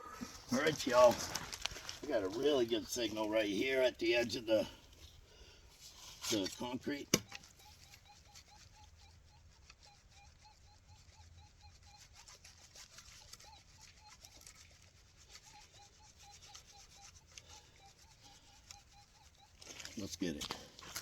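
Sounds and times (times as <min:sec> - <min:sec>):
metal detector beeping: 0:00.0 - 0:21.0.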